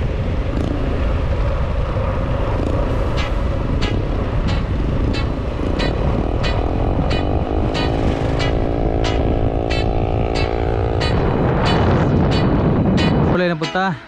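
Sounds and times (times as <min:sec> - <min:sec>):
motorcycle engine hum: 0:00.0 - 0:14.0
wind rush on microphone: 0:00.0 - 0:14.0.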